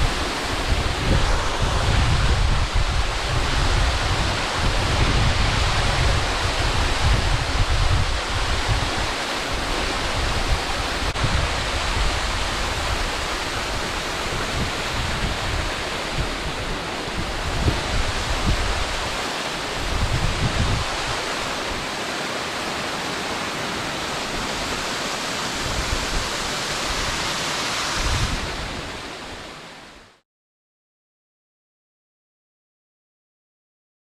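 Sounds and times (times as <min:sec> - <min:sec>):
wind buffeting microphone: 0:00.0 - 0:22.0, 0:23.7 - 0:29.5
water rushing: 0:00.0 - 0:30.2.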